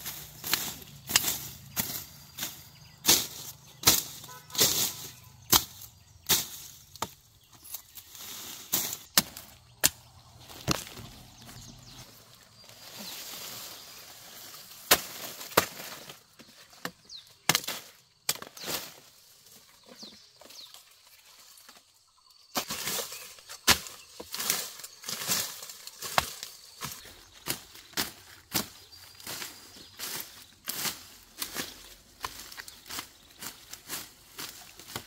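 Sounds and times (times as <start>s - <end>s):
sugarcane chops and cracks: 0.0s - 11.6s, 14.7s - 19.0s, 22.5s - 35.0s
dry leaves rustling: 0.0s - 16.3s, 22.6s - 35.0s.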